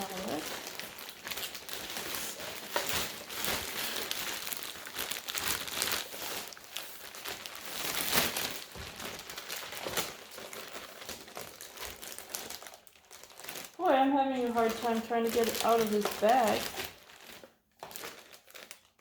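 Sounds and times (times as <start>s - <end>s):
plastic bag crinkling and rustling: 0.0s - 19.0s.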